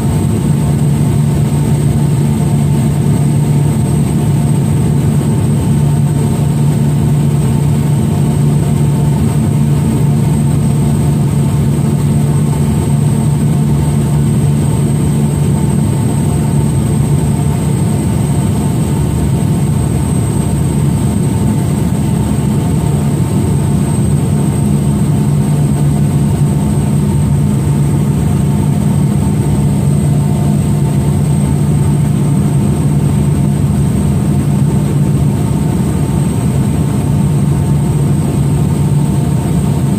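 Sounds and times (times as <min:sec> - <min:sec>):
aircraft engine droning in cabin: 0:00.0 - 0:39.9.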